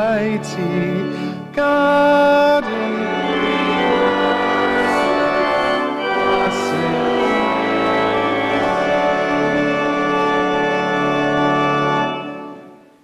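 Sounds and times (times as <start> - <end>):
church organ playing hymn chords: 0.0 - 13.0.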